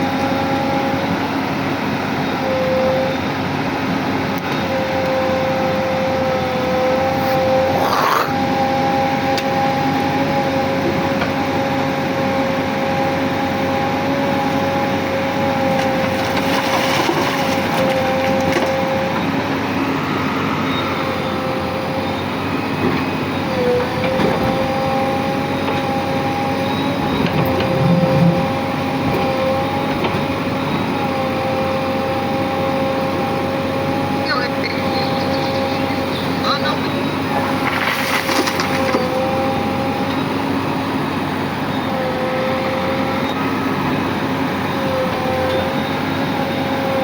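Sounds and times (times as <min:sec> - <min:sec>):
backhoe loader engine whining: 0:00.0 - 0:47.0.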